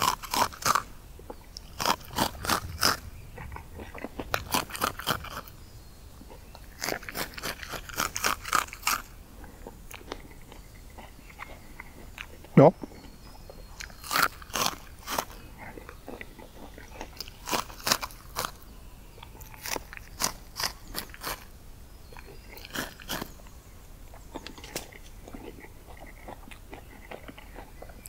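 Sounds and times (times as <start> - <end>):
person chewing crisp corn kernels: 0.0 - 28.0.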